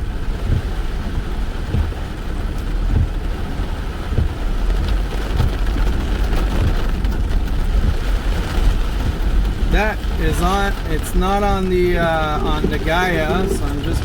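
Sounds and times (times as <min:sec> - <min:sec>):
car engine rumble: 0:00.0 - 0:14.0
rain hissing: 0:00.0 - 0:14.0
suspension knocks: 0:00.4 - 0:02.2, 0:02.8 - 0:03.2, 0:04.1 - 0:14.0.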